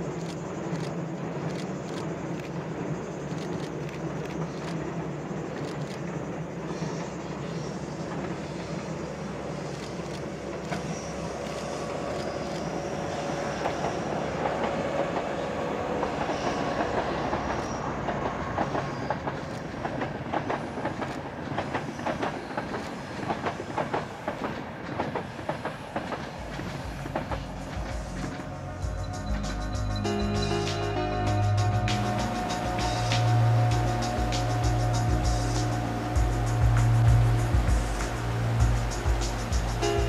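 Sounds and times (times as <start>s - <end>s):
passenger train rumble: 0.0s - 40.0s.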